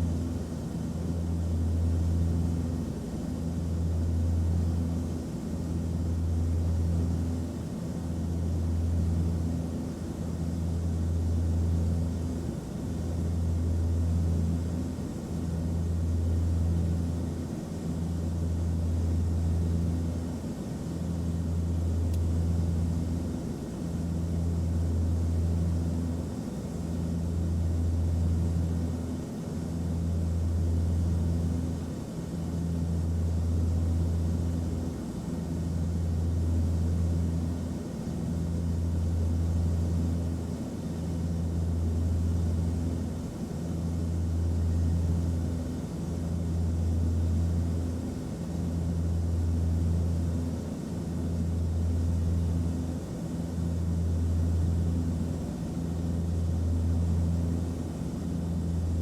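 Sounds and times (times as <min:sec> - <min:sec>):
low cabin drone: 0:00.0 - 0:59.0.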